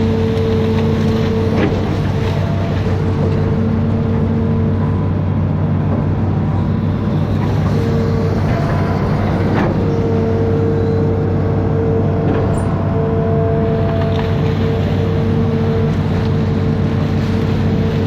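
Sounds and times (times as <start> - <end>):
high humming tone: 0.0 - 17.8
diesel engine running: 0.0 - 18.0.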